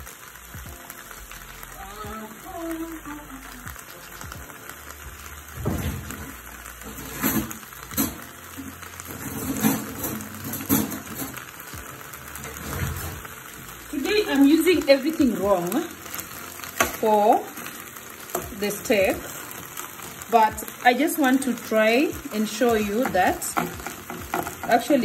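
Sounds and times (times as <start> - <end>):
meat sizzling in grill pan: 0.0 - 25.0.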